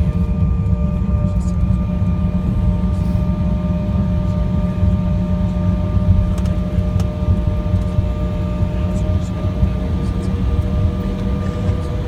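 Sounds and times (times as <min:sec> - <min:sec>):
airplane cabin rumble: 0:00.0 - 0:12.0
jet engine whine: 0:00.0 - 0:12.0.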